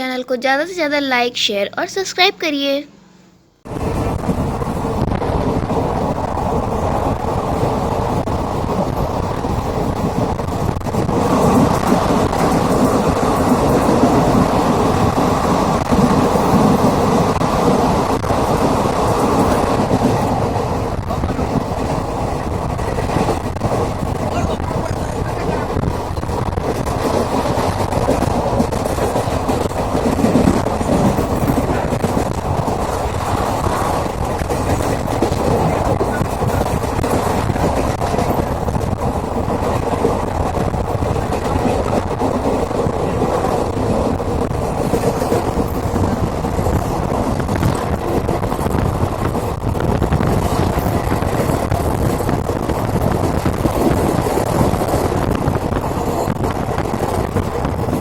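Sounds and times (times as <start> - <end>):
train wheels rumbling on rails: 3.6 - 58.0.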